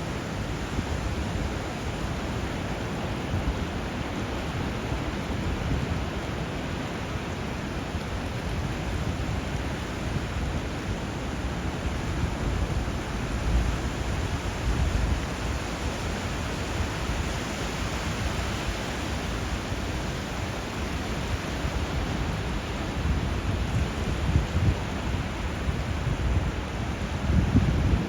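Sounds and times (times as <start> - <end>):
river water flowing: 0.0 - 27.4.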